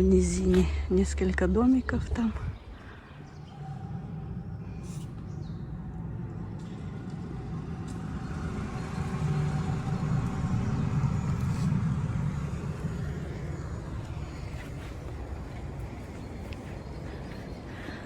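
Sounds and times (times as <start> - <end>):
steady low rumble: 0.0 - 18.0
road vehicle passing by: 3.0 - 18.0.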